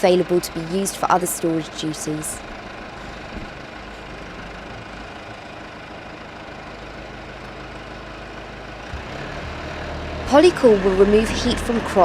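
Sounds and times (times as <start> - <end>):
deep steady hum: 0.0 - 12.0
engine idling: 0.0 - 12.0.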